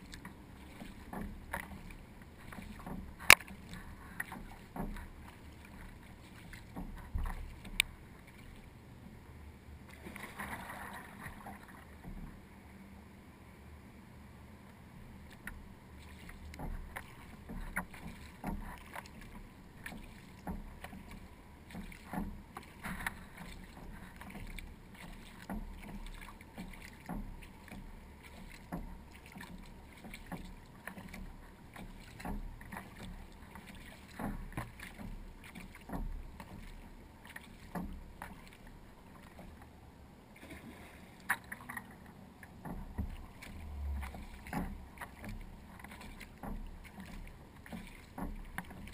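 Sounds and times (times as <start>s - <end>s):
paddle strokes splashing water: 0.0s - 13.0s, 14.6s - 48.9s.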